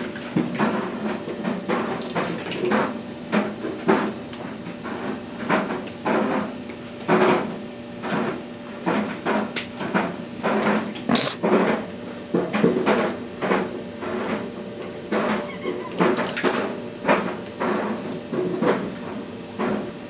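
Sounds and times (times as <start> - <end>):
clothes dryer humming: 0.0 - 20.0
dryer drum knocking: 0.0 - 20.0.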